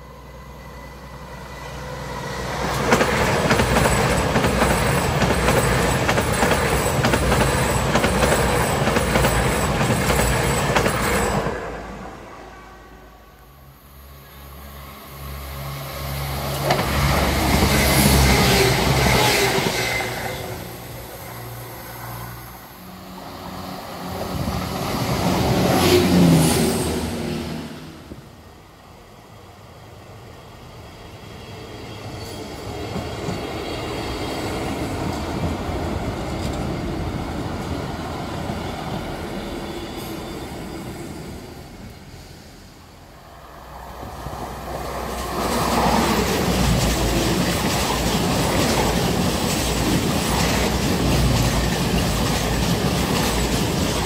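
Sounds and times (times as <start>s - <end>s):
train rumbling over level crossing: 0.0s - 12.5s, 15.6s - 28.6s, 32.2s - 54.0s
diesel train engine drone: 0.0s - 54.0s
diesel train rushing past: 0.0s - 54.0s.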